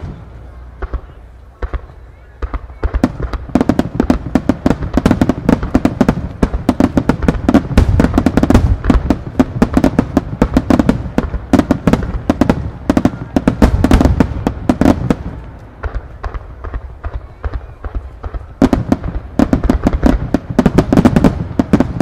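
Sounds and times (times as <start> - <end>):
fireworks deep booms: 0.0 - 22.0
fireworks sharp bangs: 0.0 - 22.0.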